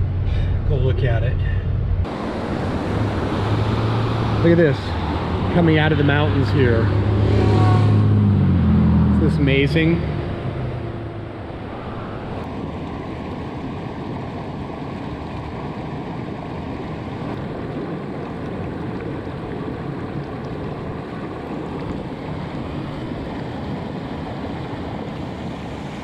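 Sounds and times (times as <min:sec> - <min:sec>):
creek rushing over boulders: 0:02.0 - 0:26.0.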